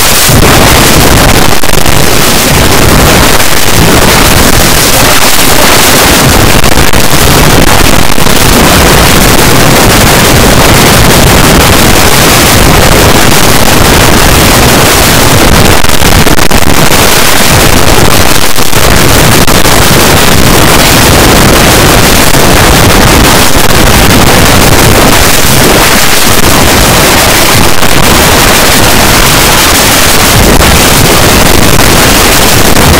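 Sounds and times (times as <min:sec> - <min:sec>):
harsh distorted noise: 0:00.0 - 0:32.9.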